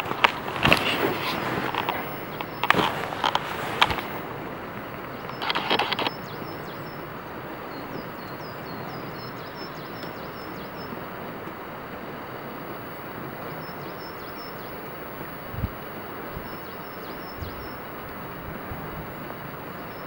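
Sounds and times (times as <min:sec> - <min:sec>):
rushing background noise: 0:00.0 - 0:20.0.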